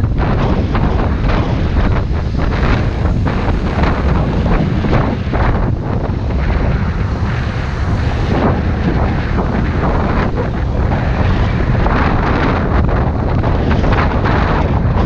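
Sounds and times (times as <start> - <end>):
motorbike and road rumble: 0.0 - 15.0
wind buffeting microphone: 0.0 - 15.0.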